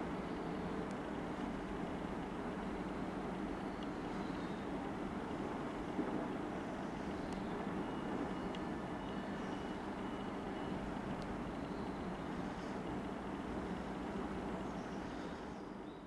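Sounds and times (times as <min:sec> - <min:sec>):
diesel locomotive engine hum: 0:00.0 - 0:16.0.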